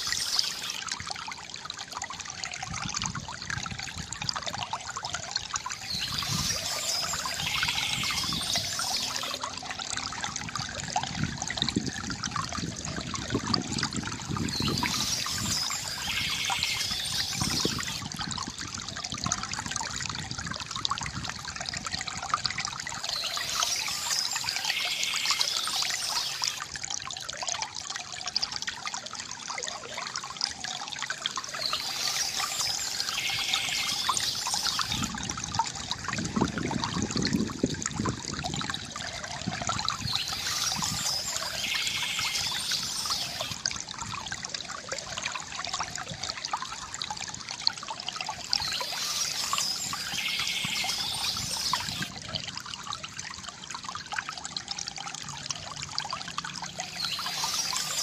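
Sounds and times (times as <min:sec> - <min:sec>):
higher brighter water sound: 0:00.0 - 0:58.0
river water gurgling: 0:00.0 - 0:58.0.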